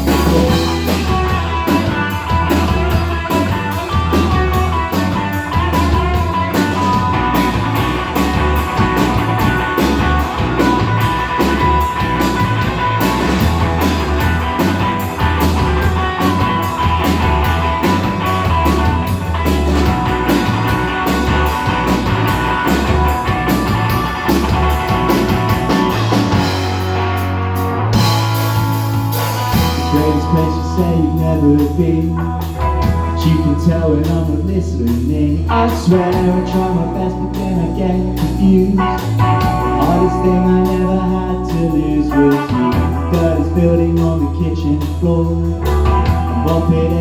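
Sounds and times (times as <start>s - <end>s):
drum kit beat: 0.0s - 47.0s
rock band playing: 0.0s - 47.0s.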